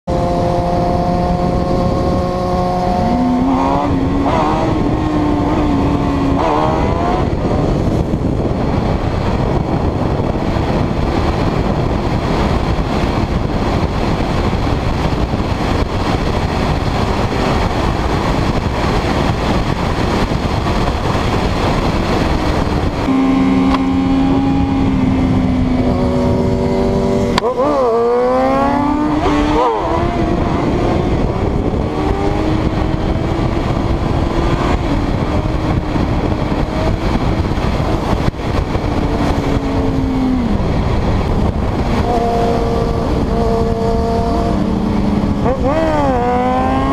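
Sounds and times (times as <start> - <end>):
motorbike engines revving: 0.0 - 46.9
wind rushing over camera: 0.0 - 46.9.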